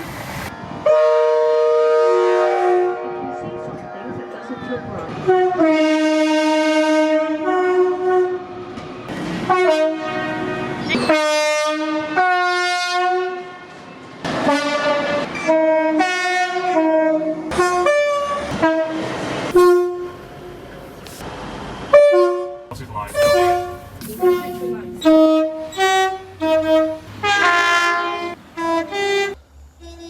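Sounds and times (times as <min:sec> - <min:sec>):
train air horn blasts: 0:00.8 - 0:08.5, 0:09.4 - 0:13.7, 0:14.4 - 0:20.6, 0:21.9 - 0:30.0.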